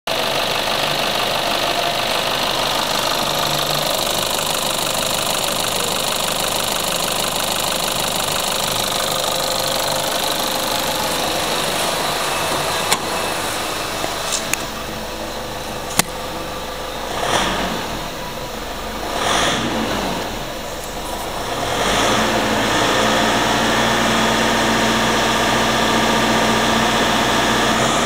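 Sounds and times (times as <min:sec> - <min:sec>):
diesel engine idling: 0:00.1 - 0:28.0.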